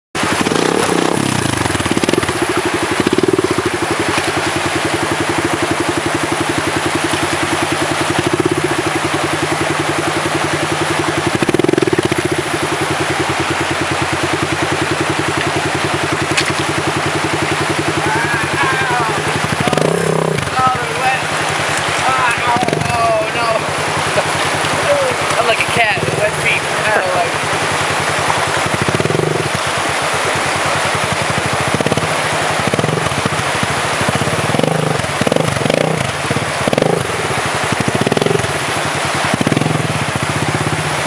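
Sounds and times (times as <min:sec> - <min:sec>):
dirt bike engine idling and revving: 0:00.2 - 0:41.0
rushing water: 0:00.2 - 0:41.0.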